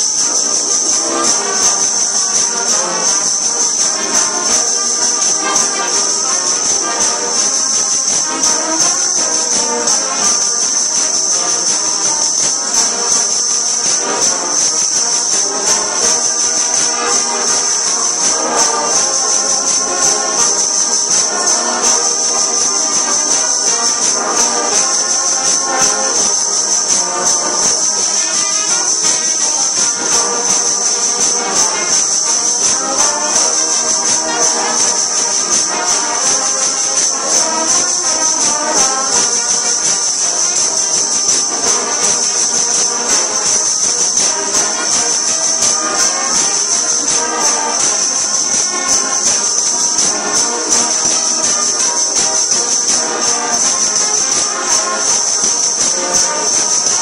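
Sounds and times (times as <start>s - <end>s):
high shimmer: 0.0s - 57.0s.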